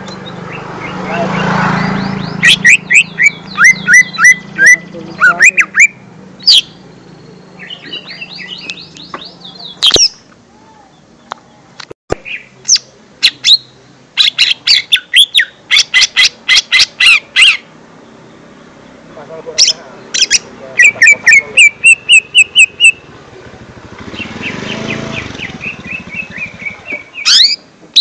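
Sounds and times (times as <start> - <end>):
bird singing chirps and whistles: 0.0 - 10.2, 12.2 - 17.6, 19.6 - 23.1, 24.1 - 28.0.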